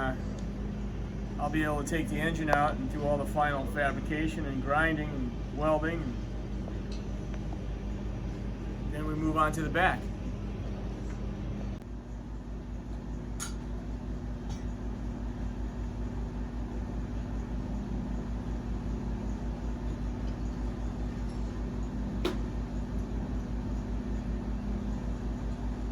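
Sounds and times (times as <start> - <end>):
machine humming and pulsing: 0.0 - 25.9.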